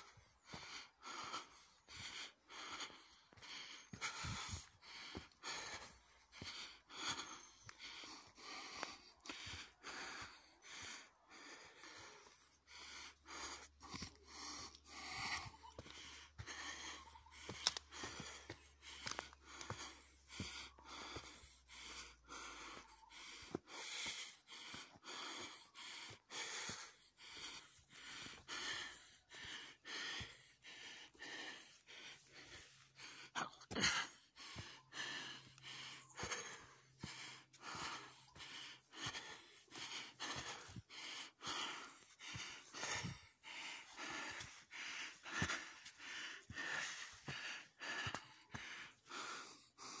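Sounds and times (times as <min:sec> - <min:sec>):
footsteps on dirt path: 0:00.0 - 0:32.8, 0:33.4 - 0:50.0
person breathing hard: 0:00.0 - 0:50.0.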